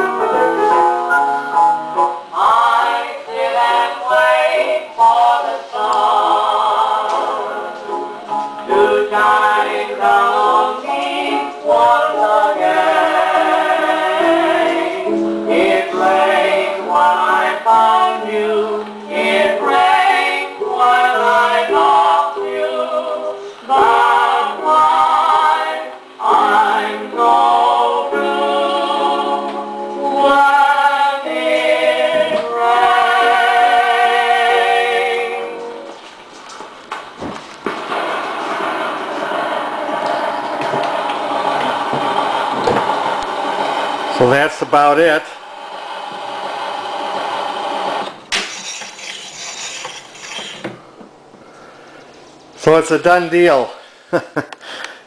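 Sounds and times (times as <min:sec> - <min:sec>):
close harmony singing on old record: 0:00.0 - 0:36.5, 0:37.2 - 0:48.6.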